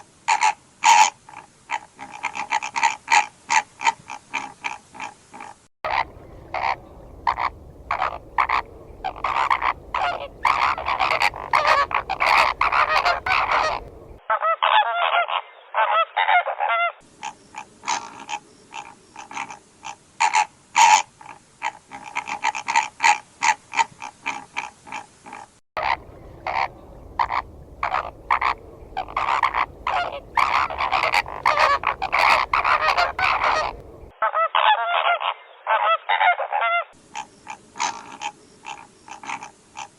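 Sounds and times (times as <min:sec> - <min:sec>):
flamingos honking: 0:00.0 - 0:39.9.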